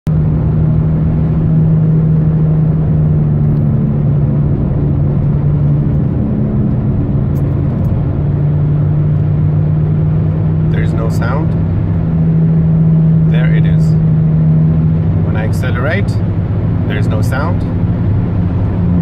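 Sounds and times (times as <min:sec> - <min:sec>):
car interior road and engine noise: 0:00.1 - 0:19.0
loud low hum: 0:00.1 - 0:19.0.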